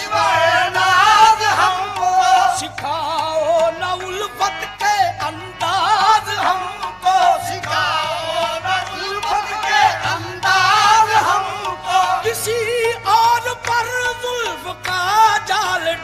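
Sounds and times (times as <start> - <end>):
rhythmic instrumental accompaniment: 0.0 - 16.0.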